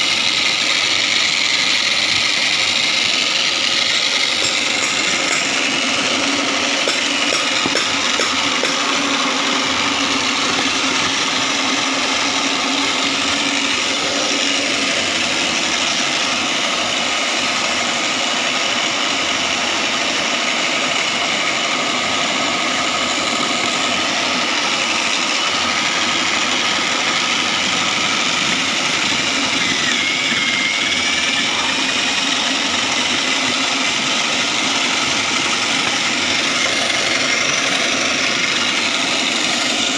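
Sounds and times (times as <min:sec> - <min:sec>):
shredding machine droning: 0:00.0 - 0:39.9.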